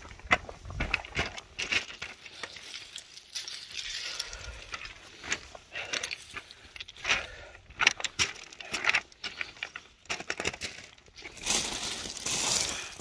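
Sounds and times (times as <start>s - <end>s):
footsteps crunching on loose stones: 0.0s - 13.0s.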